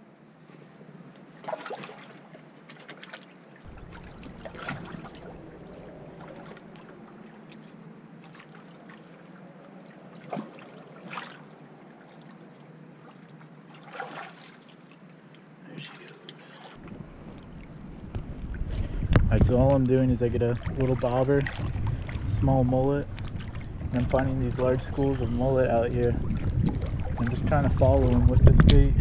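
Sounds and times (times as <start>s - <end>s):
water lapping: 0.5s - 29.0s
water splashing: 1.3s - 29.0s.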